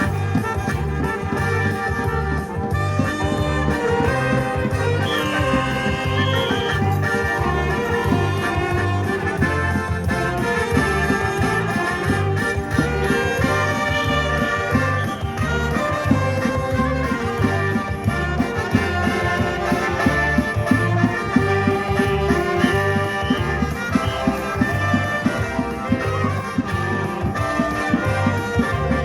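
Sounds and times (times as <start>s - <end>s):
live band with brass: 0.0s - 29.0s.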